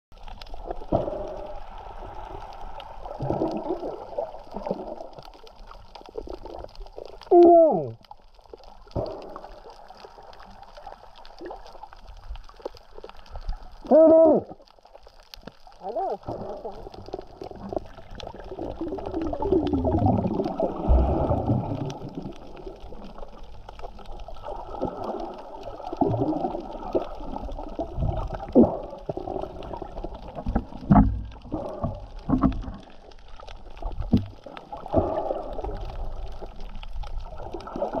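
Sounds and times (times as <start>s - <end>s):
underwater sloshing and gurgling: 0.1s - 38.0s.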